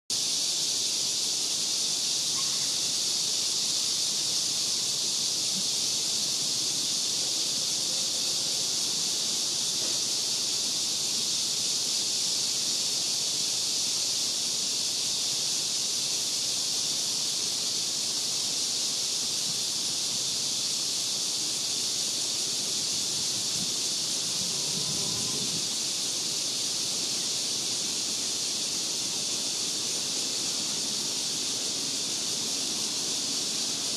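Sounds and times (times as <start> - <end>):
insects chorus: 0.1 - 33.9.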